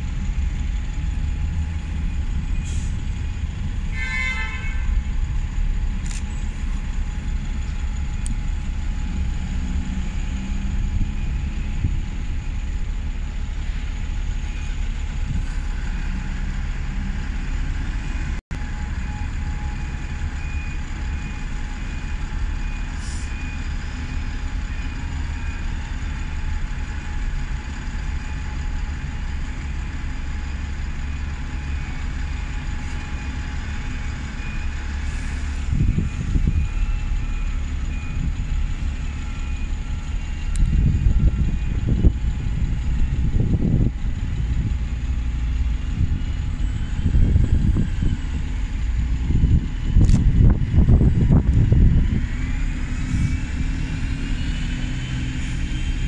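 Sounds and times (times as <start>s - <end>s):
diesel bus engines rumbling: 0.0s - 56.0s
traffic: 0.0s - 56.0s.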